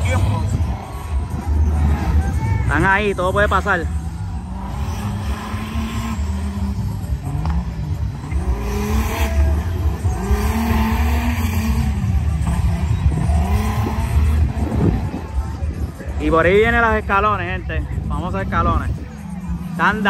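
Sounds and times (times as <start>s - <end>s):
race engines at hard throttle: 0.0s - 20.0s.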